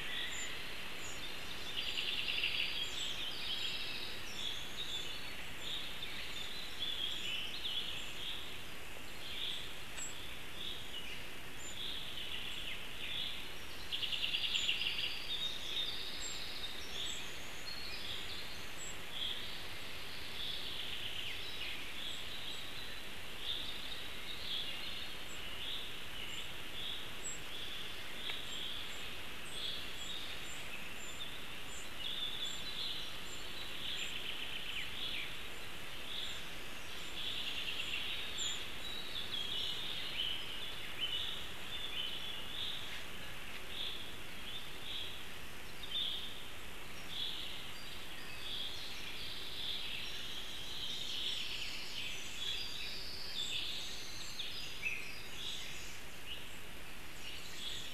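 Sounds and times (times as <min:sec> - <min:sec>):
background hiss: 0:00.0 - 0:57.9
songbirds chirping: 0:00.0 - 0:57.9.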